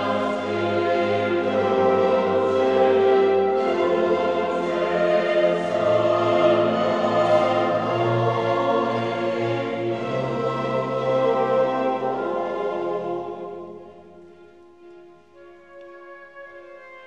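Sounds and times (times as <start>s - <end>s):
choir singing: 0.0s - 14.6s
string orchestra chords: 0.0s - 17.0s.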